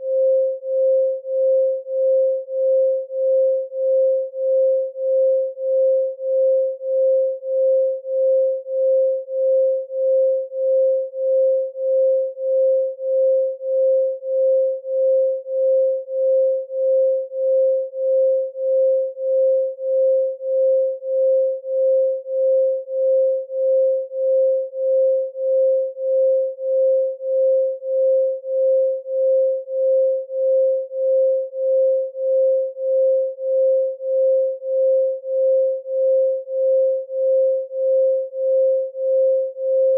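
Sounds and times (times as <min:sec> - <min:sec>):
pulsing sine tone: 0:00.0 - 0:39.9.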